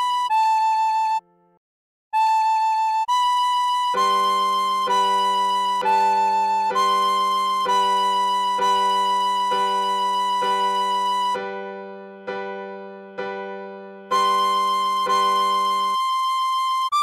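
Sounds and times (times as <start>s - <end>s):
tin whistle melody: 0.0s - 1.5s, 2.2s - 17.0s
keyboard chords: 0.0s - 1.6s, 2.2s - 17.0s.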